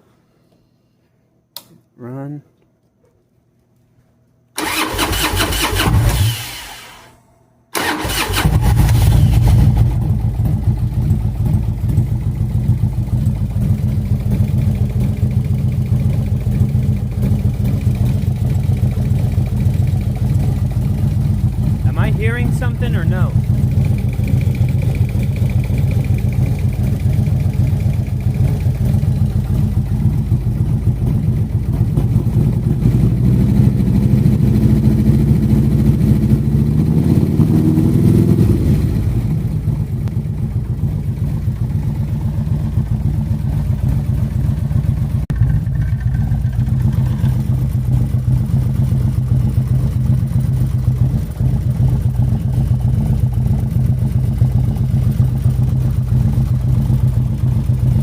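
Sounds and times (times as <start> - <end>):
motorcycle engine idling and revving: 7.8 - 58.0.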